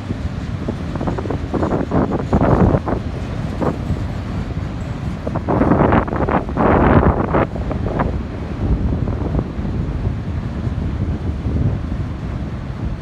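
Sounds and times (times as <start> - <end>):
freight train rumbling: 0.0 - 13.0
wind buffeting microphone: 0.0 - 13.0.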